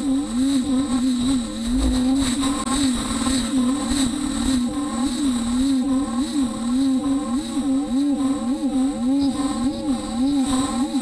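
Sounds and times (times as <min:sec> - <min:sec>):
steady high whine: 0:00.0 - 0:11.0.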